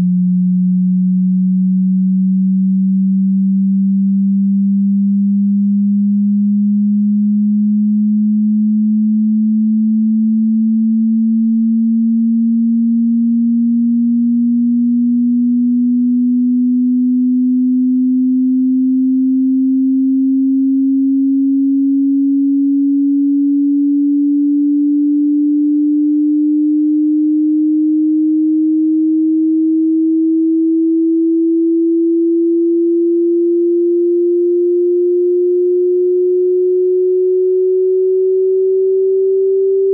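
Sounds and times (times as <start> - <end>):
rising sine test tone: 0.0 - 39.9.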